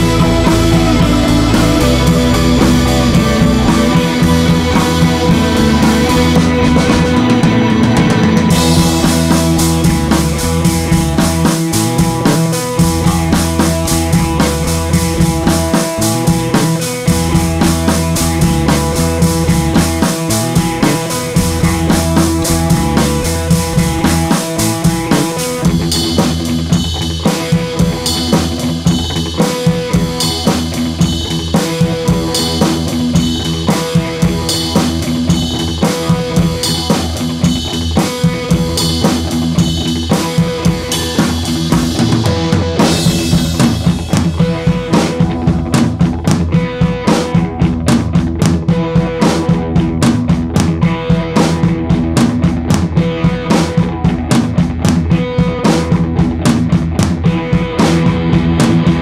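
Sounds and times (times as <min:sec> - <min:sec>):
instrumental music with drum beat: 0:00.0 - 0:59.0.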